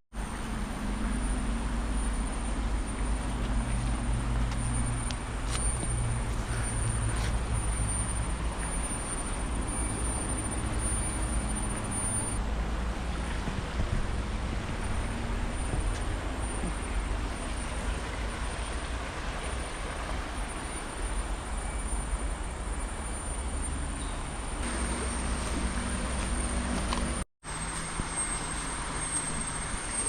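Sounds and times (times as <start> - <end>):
highway traffic: 0.1 - 30.0.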